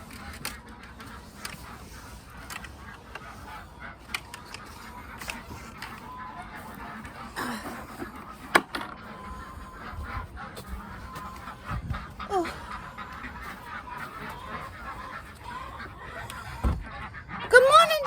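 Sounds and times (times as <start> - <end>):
geese and ducks honking: 0.0 - 18.0.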